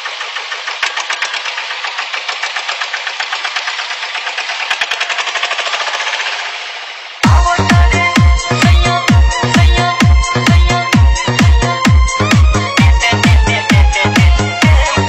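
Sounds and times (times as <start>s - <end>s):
engine running with even pulsing: 0.0s - 15.0s.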